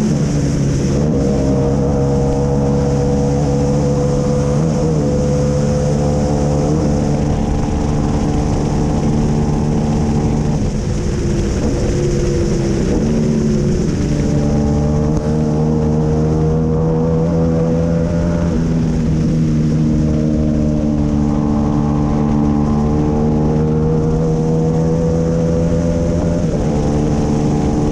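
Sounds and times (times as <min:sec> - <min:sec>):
racing engine running hard: 0:00.0 - 0:27.9.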